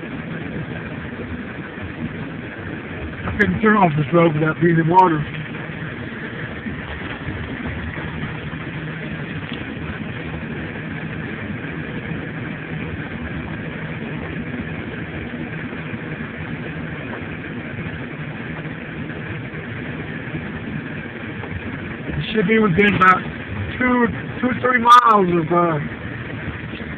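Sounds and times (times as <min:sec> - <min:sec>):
road noise: 0:00.0 - 0:26.9
vehicle engine running: 0:00.0 - 0:26.9.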